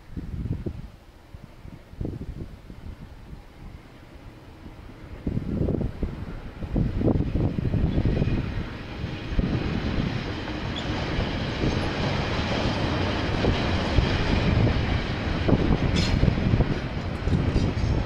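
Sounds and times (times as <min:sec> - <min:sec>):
train rushing noise: 0:00.2 - 0:18.0
train wheels rumbling on rail: 0:00.2 - 0:18.0.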